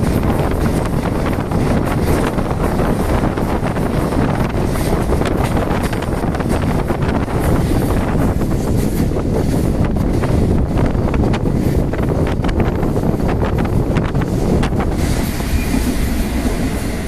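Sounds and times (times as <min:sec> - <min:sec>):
train running on rails: 0:00.0 - 0:17.0
wind buffeting microphone: 0:00.0 - 0:17.0.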